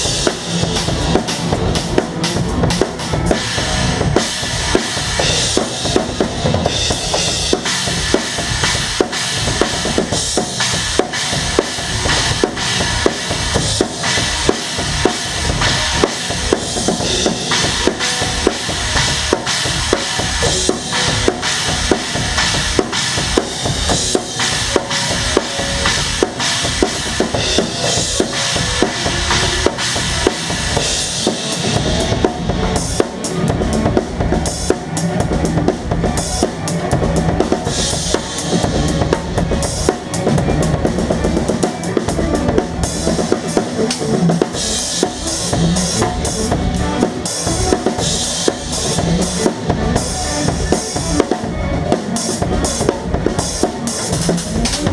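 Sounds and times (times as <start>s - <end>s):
drum kit playing: 0.0s - 54.9s
live band playing: 0.0s - 54.9s.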